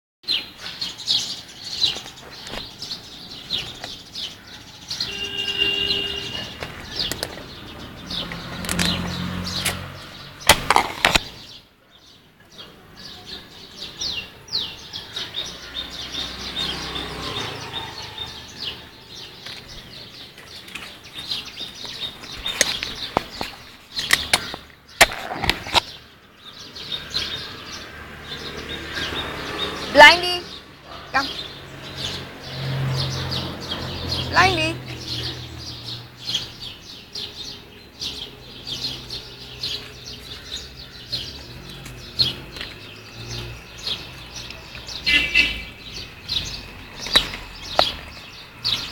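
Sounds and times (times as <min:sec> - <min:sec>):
small birds chirping: 0:00.2 - 0:48.9.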